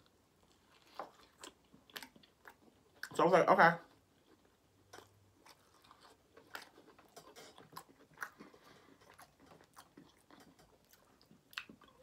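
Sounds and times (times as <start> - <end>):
chewing meat: 0.0 - 12.0.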